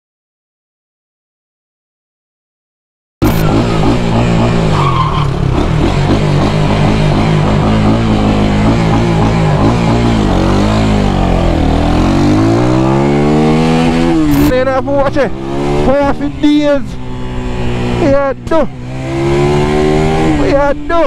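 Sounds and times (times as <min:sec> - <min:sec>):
motorcycle engine revving: 0:03.2 - 0:21.0.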